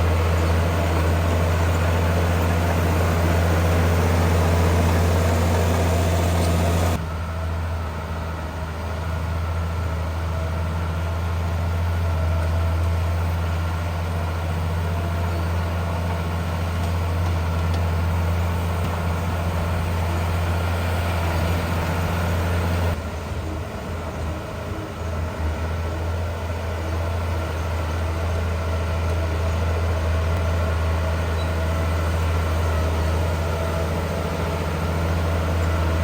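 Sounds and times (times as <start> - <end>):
heavy diesel machinery droning: 0.0 - 36.0.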